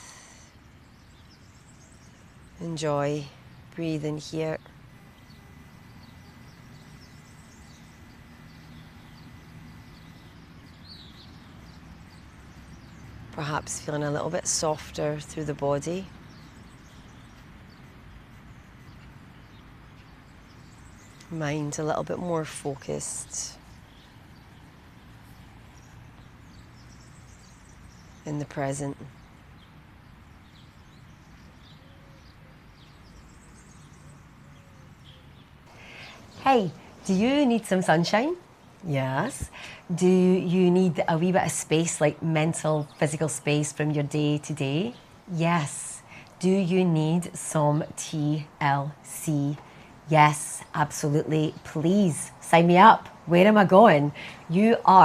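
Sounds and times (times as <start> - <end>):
faint birds chirping: 0.0 - 55.0
low steady background: 0.0 - 55.0.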